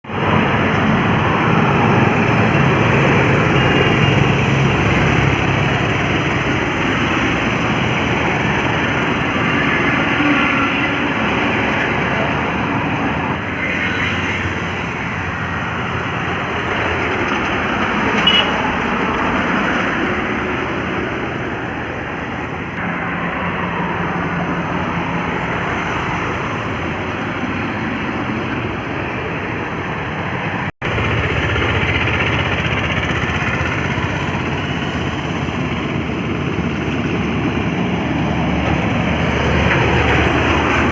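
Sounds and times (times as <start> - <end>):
heavy trucks on highway: 0.0 - 40.9
truck engine drone: 0.0 - 40.9.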